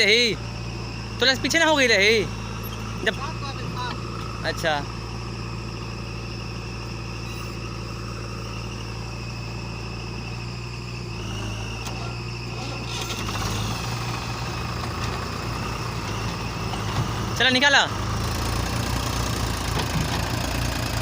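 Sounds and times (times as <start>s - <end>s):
heavy diesel engine idling: 0.0s - 21.0s.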